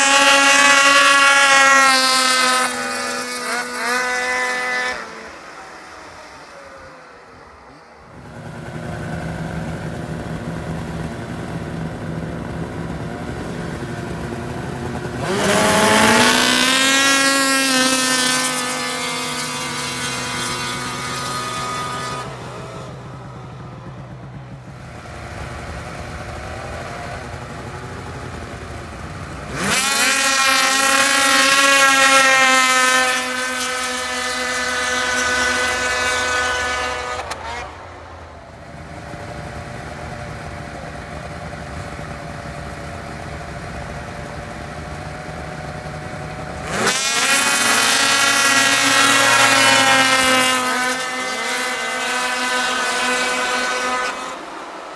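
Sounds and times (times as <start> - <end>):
snowmobile engines racing: 0.0 - 54.9.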